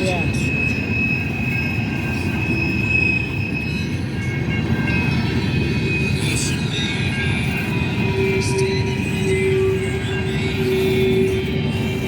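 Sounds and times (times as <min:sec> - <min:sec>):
high wheel squeal: 0:00.0 - 0:12.0
train wheels rumbling on rail: 0:00.0 - 0:12.0.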